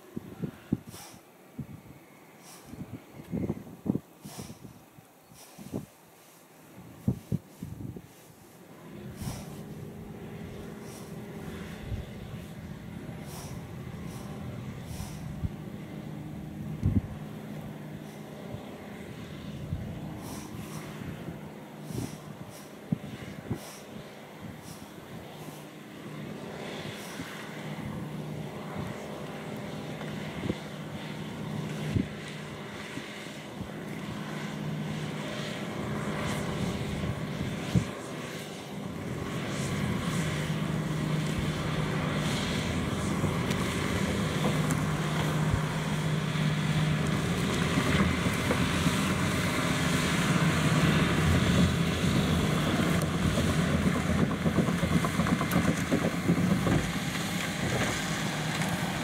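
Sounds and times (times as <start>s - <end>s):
tractor diesel engine running: 8.6s - 59.0s.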